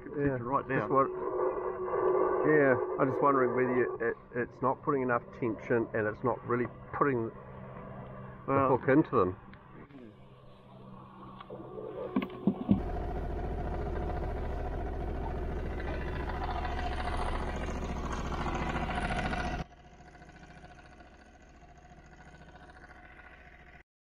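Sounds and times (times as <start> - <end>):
outboard motor running: 4.3 - 23.8.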